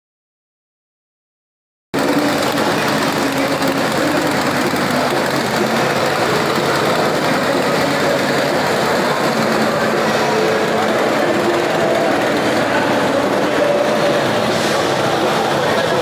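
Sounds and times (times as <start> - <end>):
motorcycle engine idling: 2.0 - 16.0.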